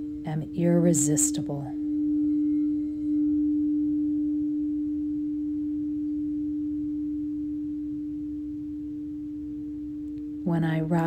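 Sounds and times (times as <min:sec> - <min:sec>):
faint higher tone: 0:00.0 - 0:11.0
singing bowl ringing: 0:00.0 - 0:11.0.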